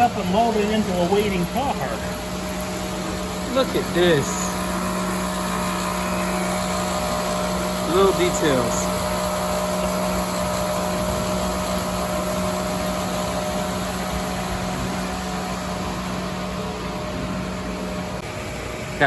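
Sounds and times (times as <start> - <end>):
model train motor hum: 0.0 - 19.0.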